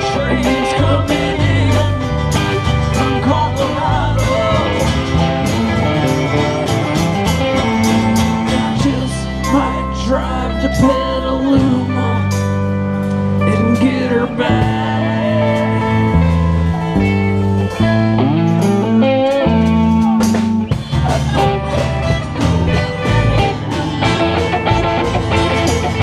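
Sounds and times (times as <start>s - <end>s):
acoustic and electric guitars: 0.0s - 26.0s
bass line: 0.0s - 26.0s.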